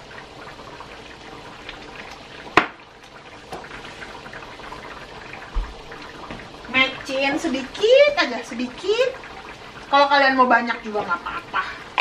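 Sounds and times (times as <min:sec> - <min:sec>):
broth simmering in a pan: 0:00.0 - 0:12.0.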